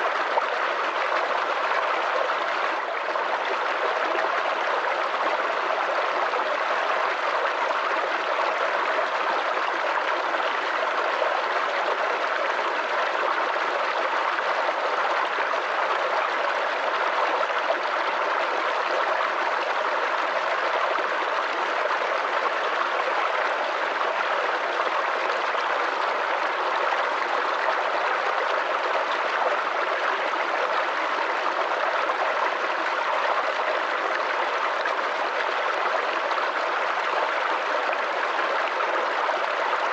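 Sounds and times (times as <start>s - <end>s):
creek water gurgling over stones: 0.0s - 39.9s.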